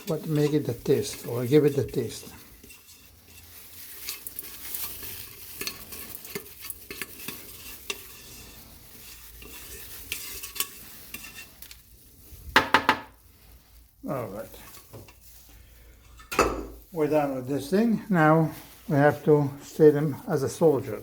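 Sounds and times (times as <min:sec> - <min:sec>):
wet scraping and stirring: 0:00.0 - 0:21.0.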